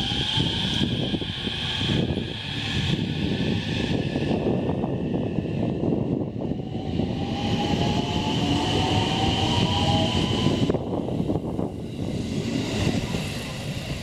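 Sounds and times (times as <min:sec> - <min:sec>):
high steady squeal: 0:00.0 - 0:14.0
train wheels rumbling on rail: 0:00.0 - 0:14.0.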